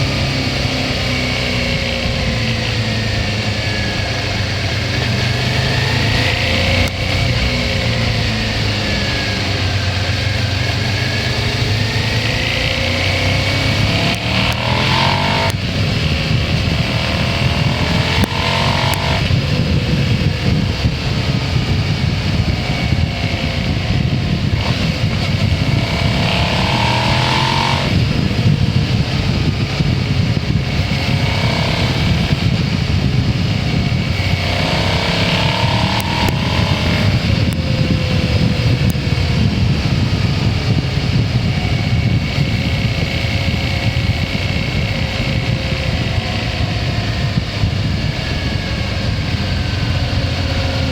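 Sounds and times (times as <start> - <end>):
motorcycle engine shifting gears: 0.0 - 50.9.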